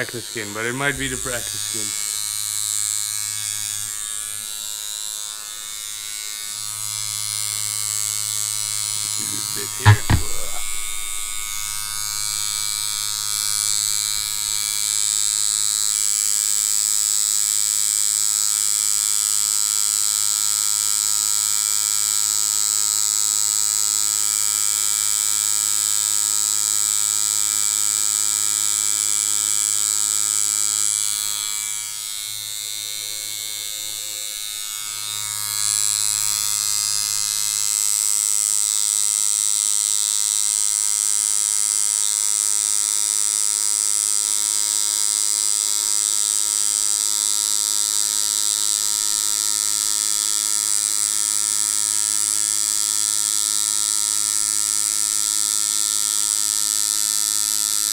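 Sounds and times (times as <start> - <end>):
tattoo machine humming and whining: 0.0 - 57.9.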